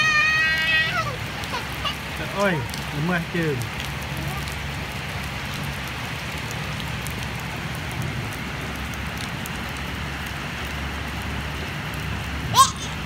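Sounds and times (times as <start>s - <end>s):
raindrops ticking close by: 0.0s - 13.0s
steady rain falling: 0.0s - 13.0s.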